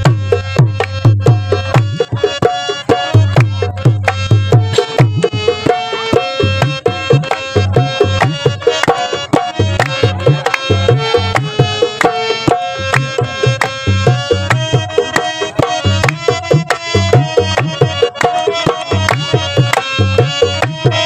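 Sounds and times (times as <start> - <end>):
harmonium melody: 0.0 - 21.0
tabla drumming: 0.0 - 21.0.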